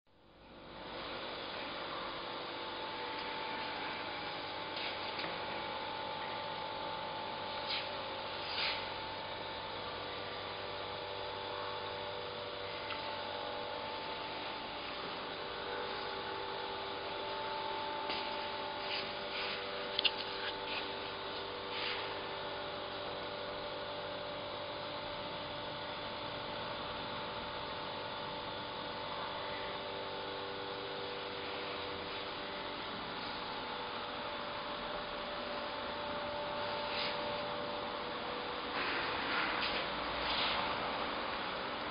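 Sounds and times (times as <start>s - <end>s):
background hum and hiss: 0.1s - 41.9s
faint constant tones: 0.1s - 41.9s.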